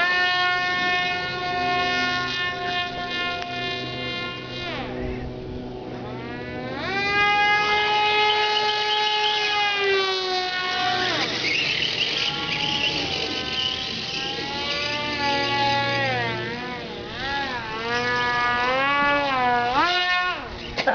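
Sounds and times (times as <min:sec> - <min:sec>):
model plane motor whine: 0:00.0 - 0:20.9.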